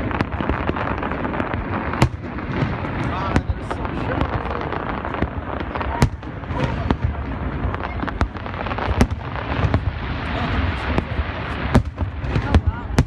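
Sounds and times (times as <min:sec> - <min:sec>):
fireworks bangs and crackles: 0:00.0 - 0:13.0
fireworks rumbling: 0:00.0 - 0:13.0.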